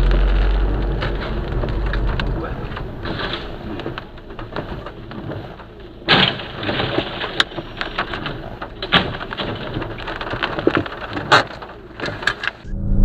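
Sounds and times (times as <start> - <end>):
heavy rain noise: 0.0 - 12.6
sharp clicks and knocks: 0.0 - 12.7.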